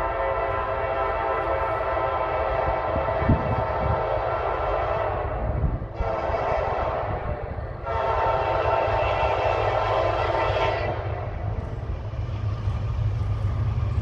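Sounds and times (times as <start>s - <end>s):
locomotive horn blasts: 0.0s - 11.6s
train passing rumble: 0.0s - 14.0s.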